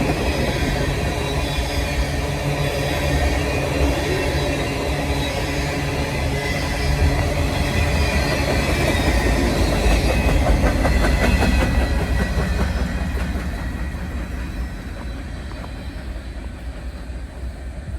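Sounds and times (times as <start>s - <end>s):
train wheels clicking over rail joints: 0.0s - 17.4s
train rumble: 0.0s - 17.9s.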